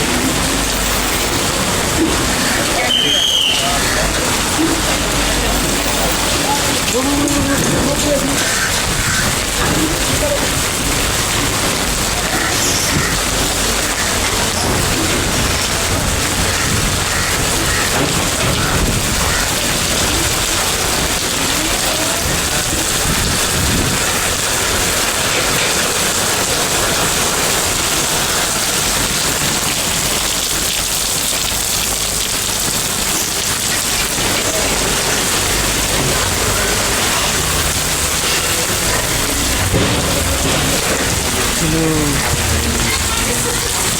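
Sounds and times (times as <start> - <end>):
loud rain: 0.0 - 43.9.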